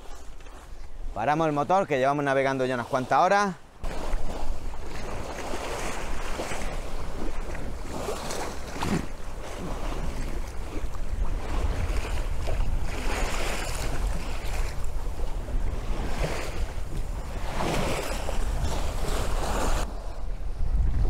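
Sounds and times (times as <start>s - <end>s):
water splashing along boat hull: 0.0s - 21.0s
wind buffeting microphone: 3.8s - 21.0s.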